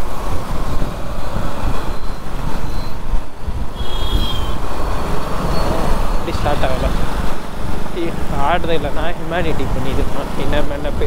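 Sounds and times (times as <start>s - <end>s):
traffic noise: 0.0s - 11.0s
wind rumble on microphone: 0.0s - 11.0s.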